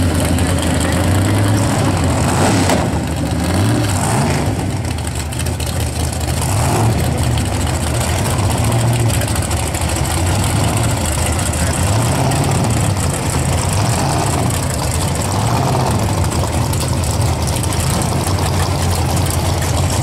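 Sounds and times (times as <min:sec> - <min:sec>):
drag-racing car engine idling: 0:00.0 - 0:20.0
engine throttle blips: 0:00.0 - 0:20.0.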